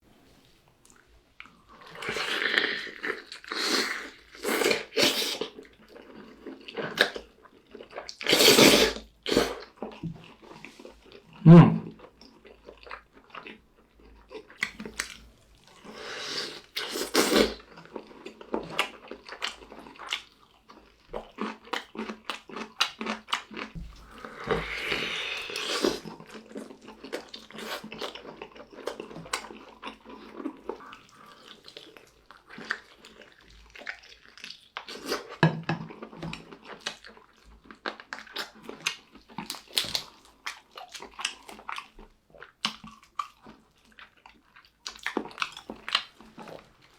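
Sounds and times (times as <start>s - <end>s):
person chewing chicken: 0.9s - 46.9s.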